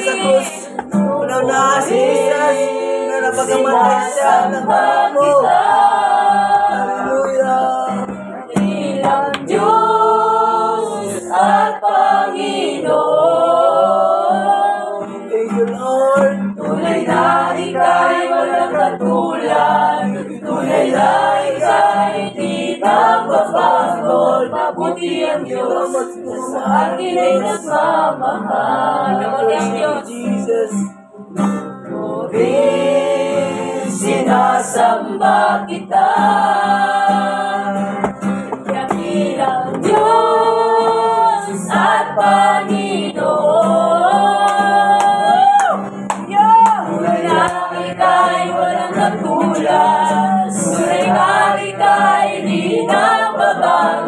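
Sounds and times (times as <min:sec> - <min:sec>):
group singing worship song: 0:00.0 - 0:54.0
guitar accompaniment: 0:00.0 - 0:54.0.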